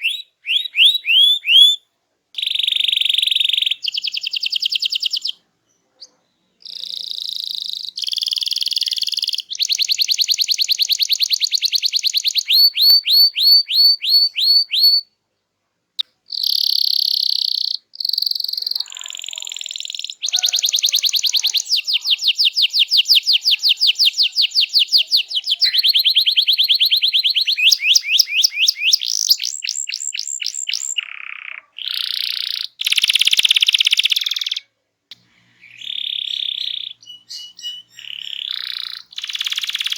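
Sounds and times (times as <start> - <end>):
canary singing trills: 0.0 - 1.8, 2.4 - 15.2, 16.0 - 39.9.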